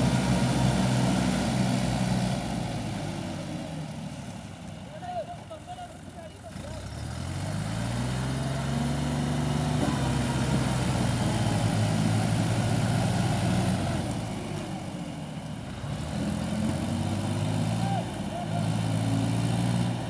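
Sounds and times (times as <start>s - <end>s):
tractor diesel engine revving: 0.0s - 20.0s.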